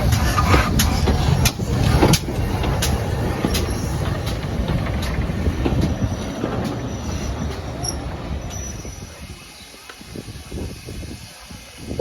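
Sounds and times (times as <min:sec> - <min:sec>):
train rumble: 0:00.0 - 0:12.0
wheels clicking over rail joints: 0:00.0 - 0:12.0.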